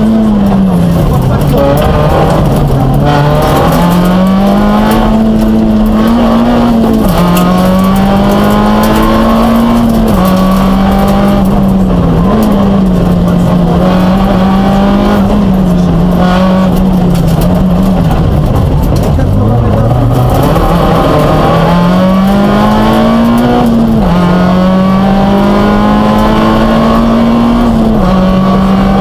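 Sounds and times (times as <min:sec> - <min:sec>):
rally car engine at high revs: 0:00.0 - 0:29.0.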